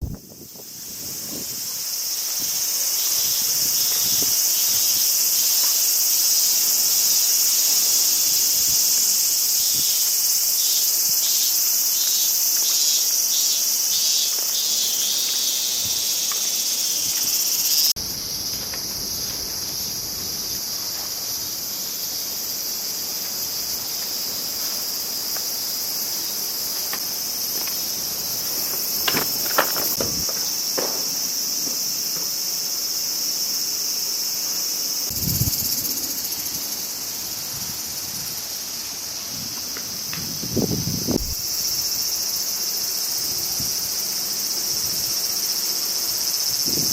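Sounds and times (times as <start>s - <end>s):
chorus of crickets and insects: 0.0s - 46.9s
pulsing insect call: 0.0s - 46.9s.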